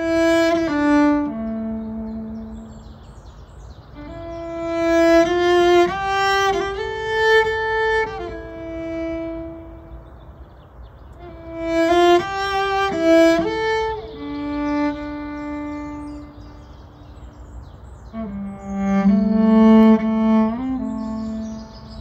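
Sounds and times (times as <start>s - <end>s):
solo cello bowed: 0.0s - 3.2s, 4.0s - 10.1s, 11.2s - 17.4s, 18.0s - 22.0s.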